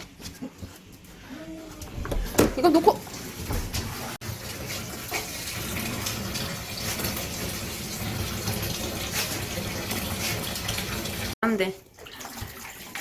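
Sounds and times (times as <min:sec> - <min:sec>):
water running into bathtub: 0:01.9 - 0:13.0.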